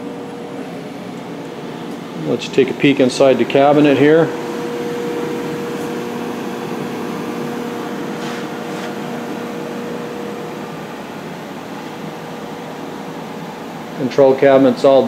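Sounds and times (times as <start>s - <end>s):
lower hum: 0.0s - 14.0s
control cabinet hum and fan whir: 0.0s - 15.0s.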